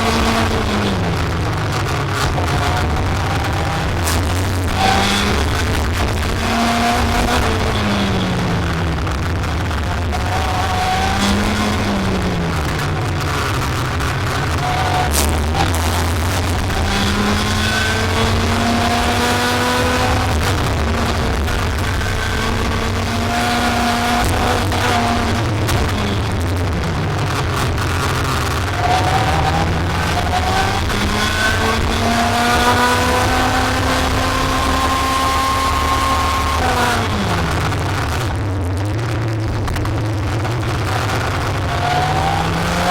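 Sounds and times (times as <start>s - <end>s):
race car engine accelerating: 0.0s - 42.9s.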